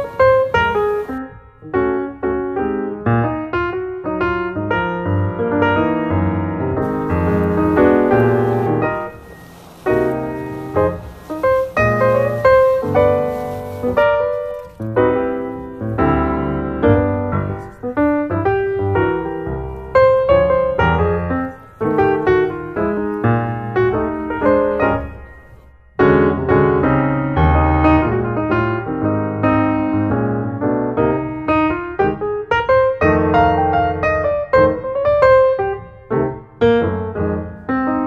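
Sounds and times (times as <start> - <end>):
piano music with bass line: 0.0 - 38.0.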